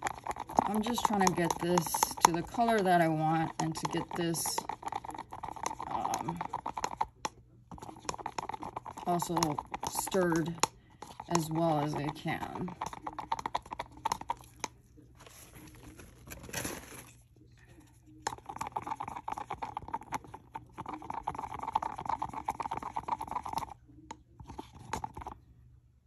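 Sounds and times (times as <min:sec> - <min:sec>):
stir stick scraping a cup: 0:00.0 - 0:25.4.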